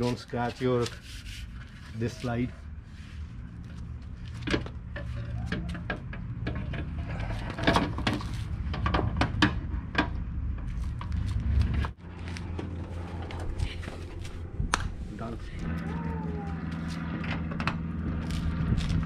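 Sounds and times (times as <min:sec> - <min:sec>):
low rumble: 0:02.6 - 0:19.0.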